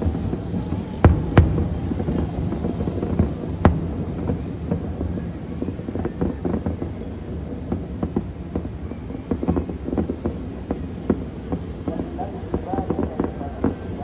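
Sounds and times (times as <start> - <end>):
distant fireworks bangs: 0.0 - 14.0
fireworks pops and crackles: 0.0 - 14.0.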